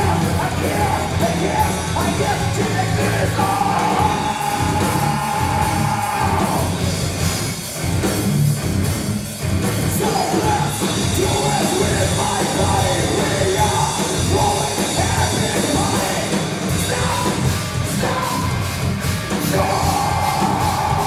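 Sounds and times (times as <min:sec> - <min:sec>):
person singing: 0:00.0 - 0:06.8, 0:09.9 - 0:18.7, 0:19.3 - 0:21.0
bass guitar: 0:00.0 - 0:21.0
drum kit: 0:00.0 - 0:21.0
electric guitar: 0:00.0 - 0:21.0.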